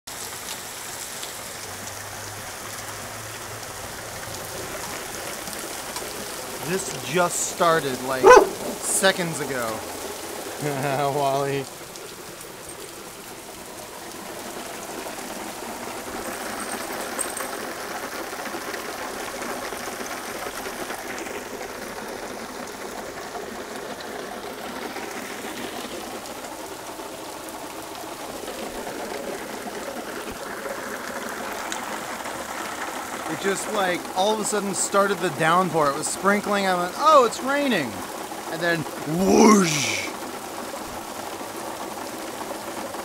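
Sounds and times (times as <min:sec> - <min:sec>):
heavy rain pouring: 0:00.1 - 0:43.0.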